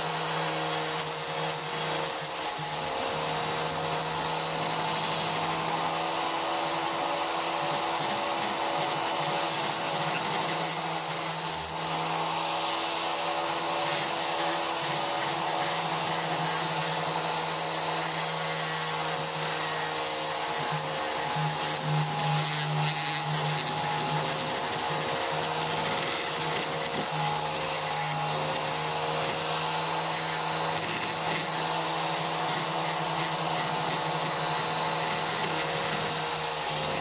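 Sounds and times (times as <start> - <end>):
small electric motor whirring: 0.0 - 37.0.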